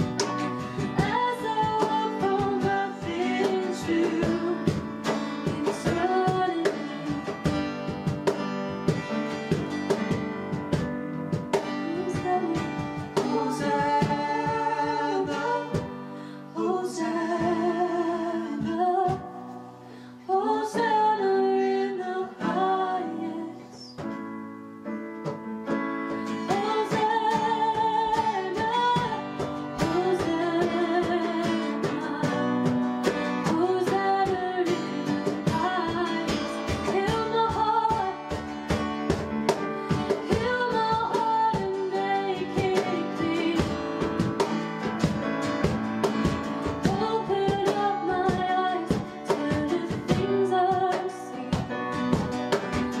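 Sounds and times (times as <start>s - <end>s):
person singing: 0.0s - 7.7s, 11.6s - 24.0s, 26.1s - 38.5s, 39.8s - 44.5s, 46.6s - 51.9s
strummed acoustic guitar: 0.0s - 19.5s, 25.1s - 53.0s.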